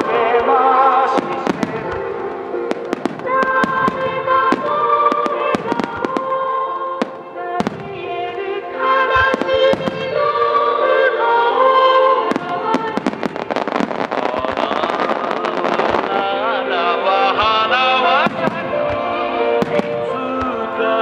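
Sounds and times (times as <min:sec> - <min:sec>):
fireworks bursting and crackling: 0:00.0 - 0:21.0
loud recorded music: 0:00.0 - 0:21.0.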